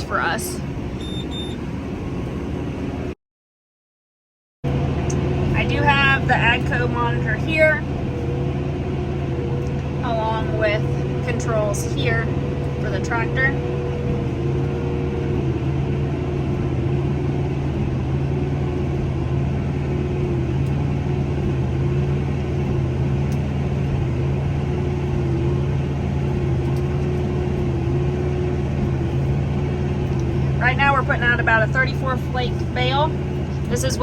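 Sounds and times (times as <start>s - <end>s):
tractor engine drone: 0.0s - 3.2s, 4.6s - 34.0s.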